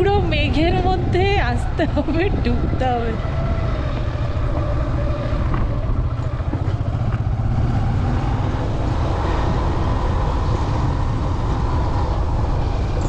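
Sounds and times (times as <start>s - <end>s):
heavy low rumble: 0.0s - 13.0s
motorcycle engine: 0.0s - 13.0s.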